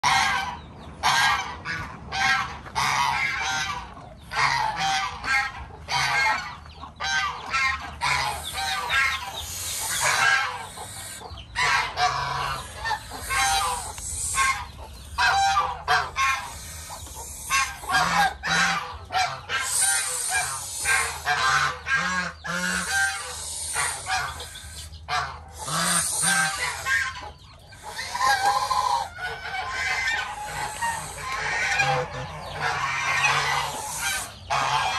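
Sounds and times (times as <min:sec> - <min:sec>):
geese honking: 0:00.0 - 0:34.9.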